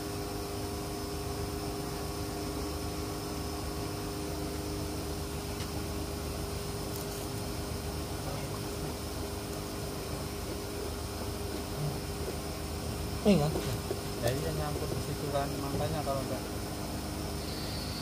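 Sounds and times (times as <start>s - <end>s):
motor droning: 0.0s - 18.0s.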